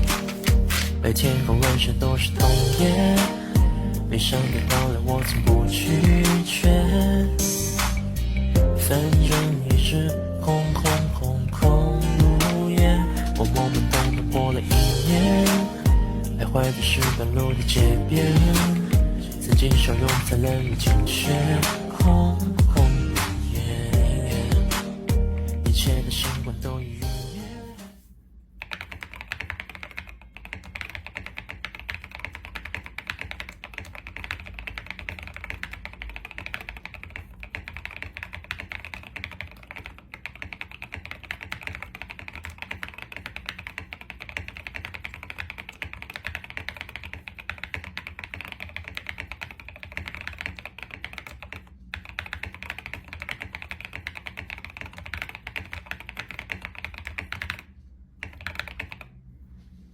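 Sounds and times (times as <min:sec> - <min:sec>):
mechanical keyboard typing: 0:00.0 - 0:07.5, 0:08.6 - 0:26.4, 0:28.6 - 0:59.1.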